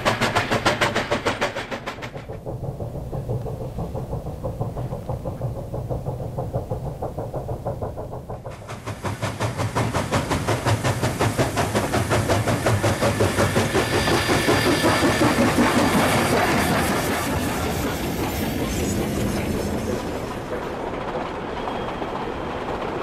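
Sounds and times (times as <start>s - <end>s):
steam locomotive exhaust chuffs: 0.0s - 23.0s.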